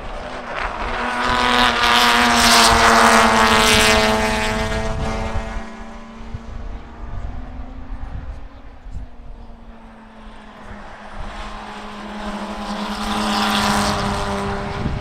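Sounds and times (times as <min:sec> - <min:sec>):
propeller aircraft flying past: 0:00.0 - 0:15.0.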